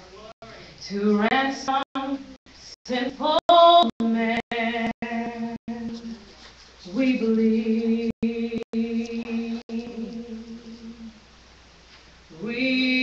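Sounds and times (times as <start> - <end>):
woman singing into microphone: 0.8 - 11.2, 12.3 - 13.0.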